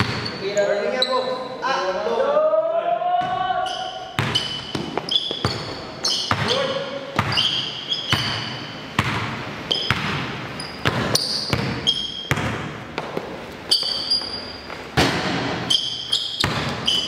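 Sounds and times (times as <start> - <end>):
basketball bouncing on court: 0.0 - 0.4, 3.2 - 17.0
sneaker squeaks: 0.0 - 1.6, 3.2 - 17.0.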